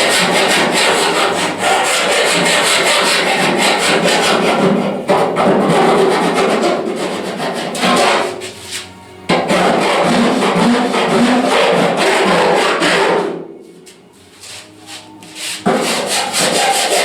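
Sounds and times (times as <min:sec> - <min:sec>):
abrasive rubbing strokes on metal: 0:00.0 - 0:17.0.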